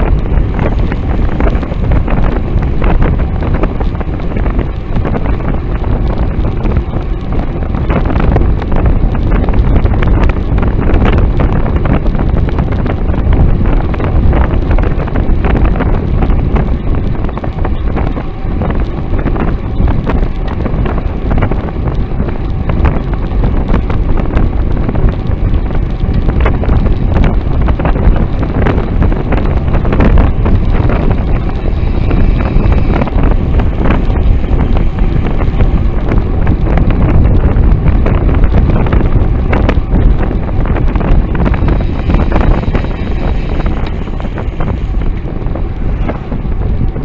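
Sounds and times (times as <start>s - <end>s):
road rumble: 0.0s - 47.0s
wind buffeting microphone: 0.0s - 47.0s.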